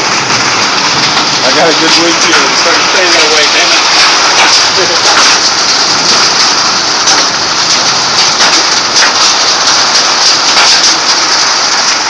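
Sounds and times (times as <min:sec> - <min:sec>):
hail pelting vehicle roof: 0:00.0 - 0:12.0.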